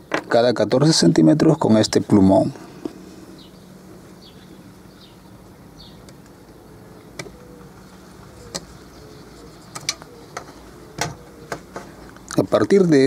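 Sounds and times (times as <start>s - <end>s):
steady low background hum: 0.0s - 13.0s.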